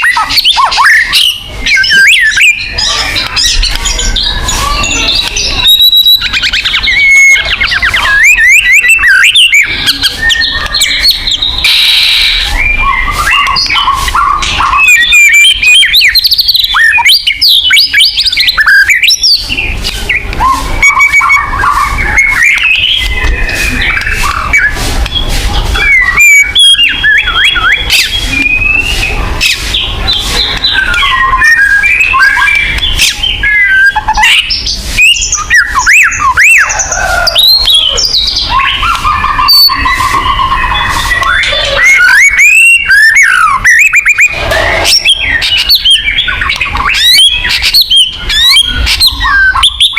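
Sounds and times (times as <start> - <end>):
songbird singing: 0.0 - 49.9.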